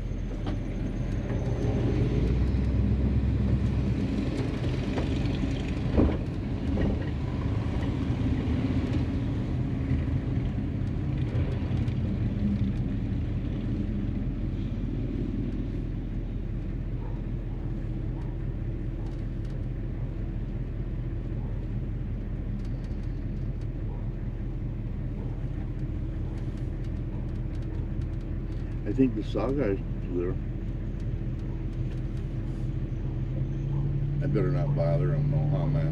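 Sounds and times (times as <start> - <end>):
car engine and road noise: 0.0 - 35.9.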